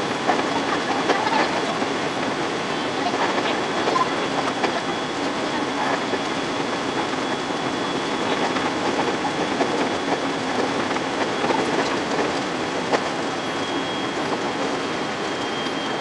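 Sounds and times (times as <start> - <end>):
train rumble and hiss: 0.0 - 16.0
wheels clicking on track: 0.0 - 16.0.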